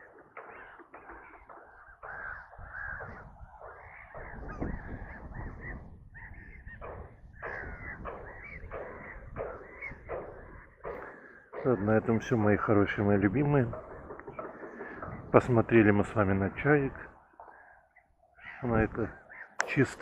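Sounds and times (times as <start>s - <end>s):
gulls screaming: 0.0s - 20.0s.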